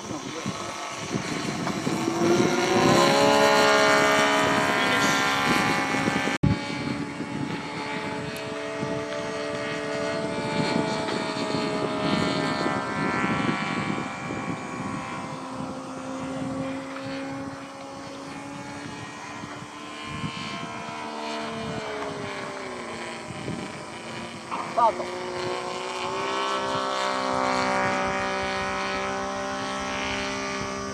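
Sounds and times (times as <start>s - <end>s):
model airplane motor droning: 0.0s - 30.9s.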